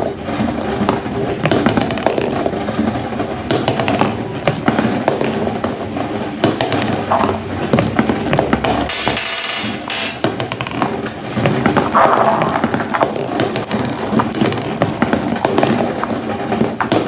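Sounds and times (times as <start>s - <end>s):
marbles rolling on track: 0.0s - 17.0s
marbles clicking against track: 0.8s - 17.0s.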